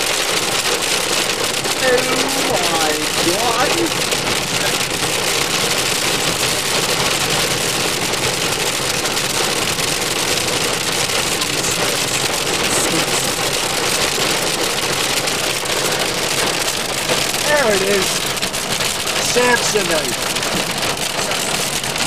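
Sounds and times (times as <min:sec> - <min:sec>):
car engine and tyres running: 0:00.0 - 0:22.0
rain falling on car: 0:00.0 - 0:22.0.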